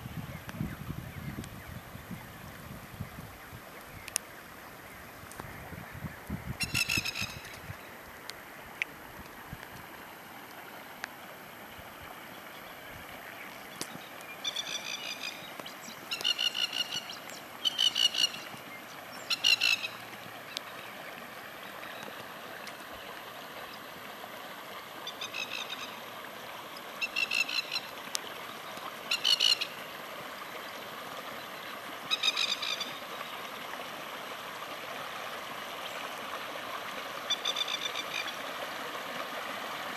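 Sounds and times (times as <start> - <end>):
rain: 0.0 - 39.9
running floodwater: 0.0 - 39.9.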